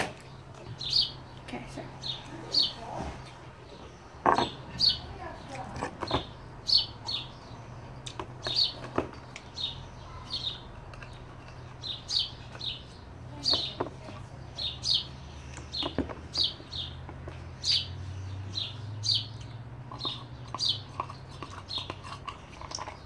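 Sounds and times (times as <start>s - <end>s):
small bird chirping: 0.2s - 23.0s.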